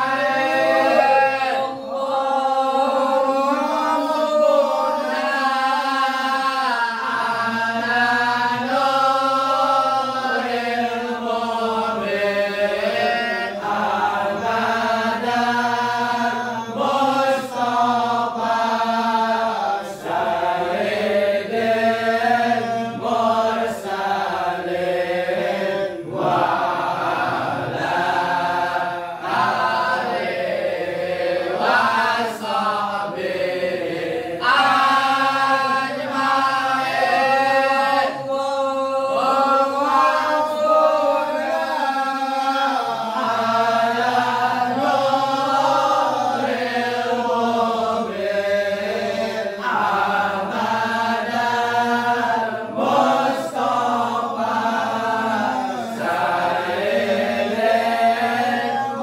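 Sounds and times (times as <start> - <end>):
congregation chanting: 0.0 - 59.0.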